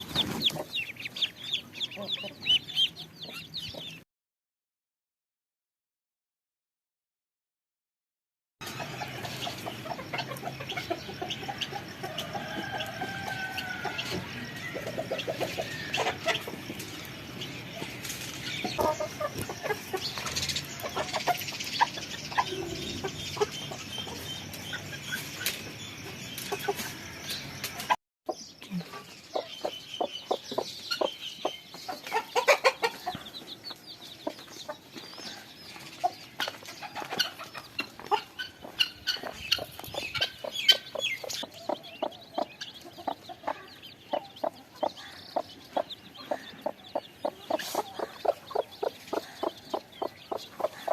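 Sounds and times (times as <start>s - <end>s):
chickens clucking: 0.0s - 4.0s, 8.6s - 50.9s.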